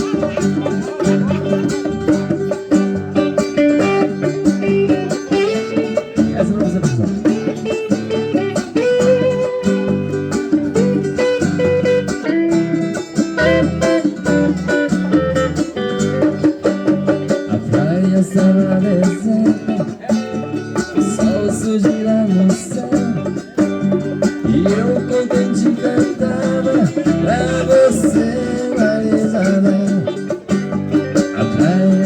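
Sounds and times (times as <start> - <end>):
drum kit beat: 0.0 - 32.0
plucked guitar melody: 0.0 - 32.0.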